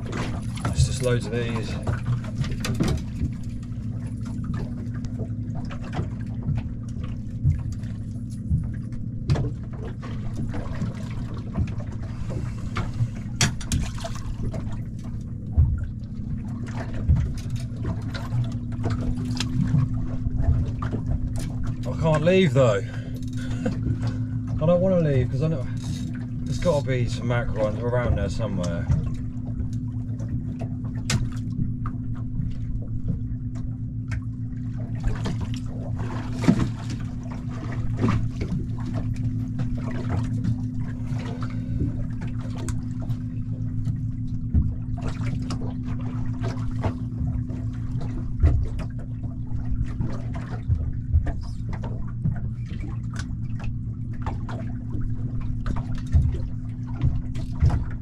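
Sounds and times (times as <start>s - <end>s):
steady low hum: 0.0s - 58.0s
water slapping against boat hull: 0.0s - 58.0s.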